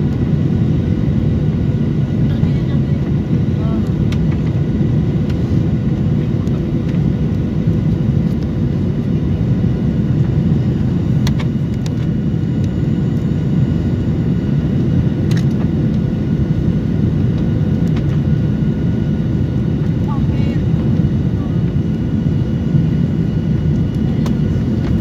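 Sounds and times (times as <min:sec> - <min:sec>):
jet engine and airflow roar: 0:00.0 - 0:25.0.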